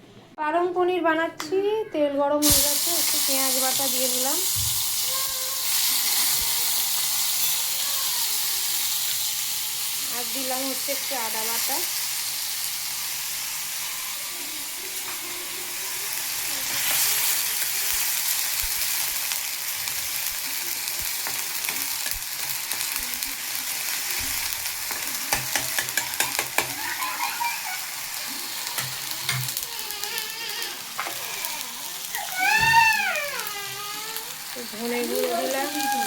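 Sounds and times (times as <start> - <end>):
paste sizzling in hot oil: 2.4 - 36.0.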